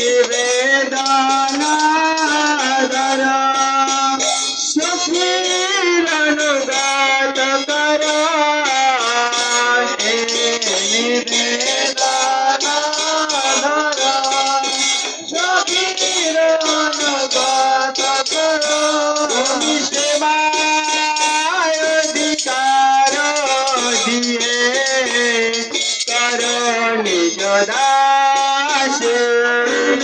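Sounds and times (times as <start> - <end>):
hand drum beat: 0.0 - 30.0
men singing a chant: 0.0 - 30.0
small hand cymbals: 0.0 - 30.0.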